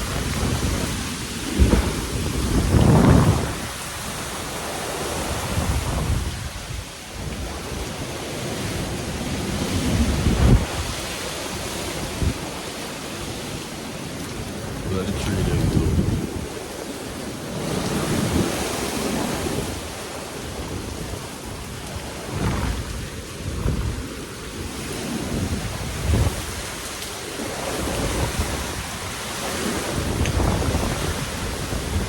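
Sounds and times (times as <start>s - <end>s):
heavy rain: 0.0s - 32.0s
wind gusts buffeting microphone: 0.0s - 32.0s.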